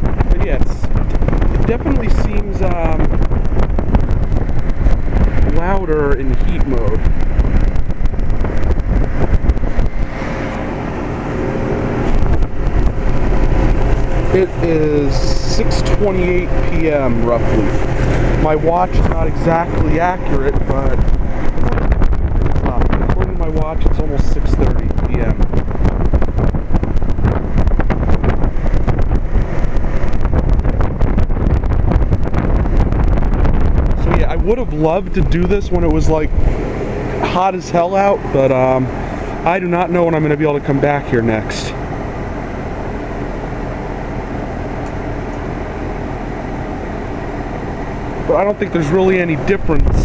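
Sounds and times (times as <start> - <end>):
heat pump unit humming: 0.0 - 50.0
wind buffeting microphone: 0.0 - 50.0.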